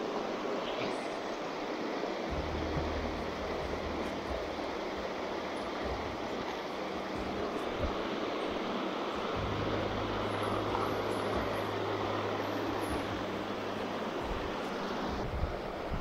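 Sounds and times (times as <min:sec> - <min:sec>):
steady low hum: 0:00.0 - 0:16.0
water rushing along a stone channel: 0:00.0 - 0:16.0.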